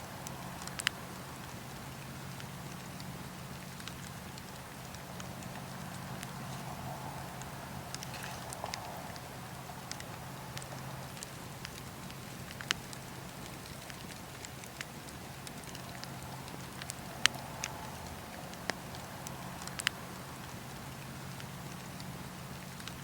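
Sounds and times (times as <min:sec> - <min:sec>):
flames rumbling: 0:00.1 - 0:22.6
burning wood popping: 0:00.1 - 0:23.0.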